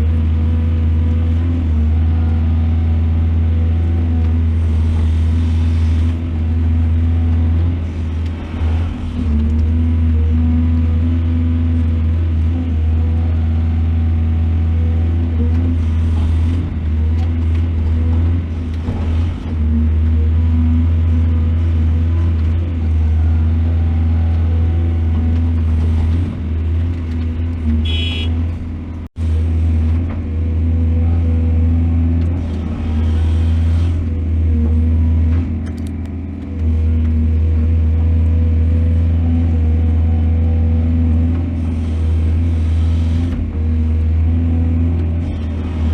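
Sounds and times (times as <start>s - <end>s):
excavator diesel engine humming: 0.0s - 45.9s.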